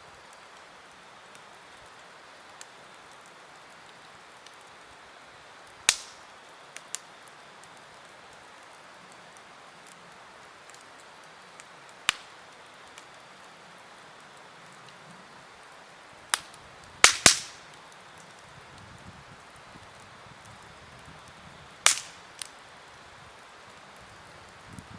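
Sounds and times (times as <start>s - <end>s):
campfire popping: 0.0s - 24.9s
fire hiss: 0.0s - 24.9s.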